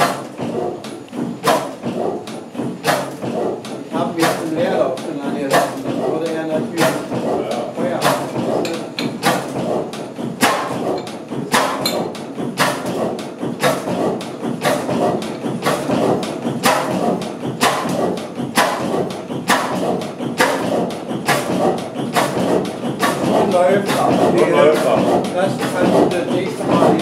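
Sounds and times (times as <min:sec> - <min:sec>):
diesel engine heavy thumps: 0:00.0 - 0:27.0
steady mechanical clatter: 0:00.0 - 0:27.0.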